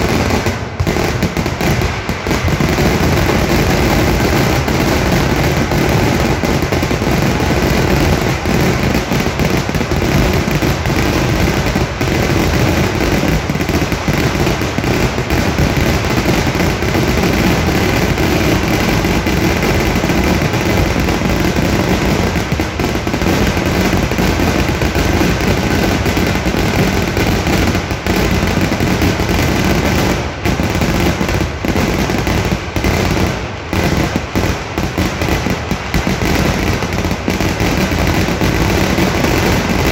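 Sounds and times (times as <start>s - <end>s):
firecracker blasts: 0.0s - 39.9s.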